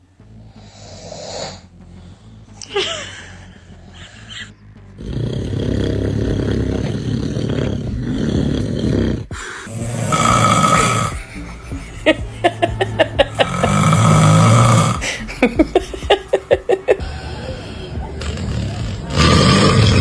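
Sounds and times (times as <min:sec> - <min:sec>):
man snoring: 0:00.2 - 0:02.5, 0:03.3 - 0:20.0.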